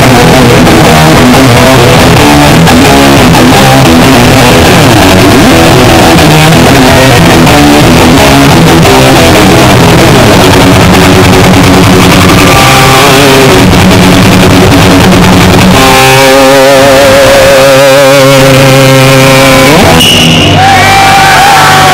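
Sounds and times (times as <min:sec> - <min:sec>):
distorted electric guitar: 0:00.0 - 0:21.9.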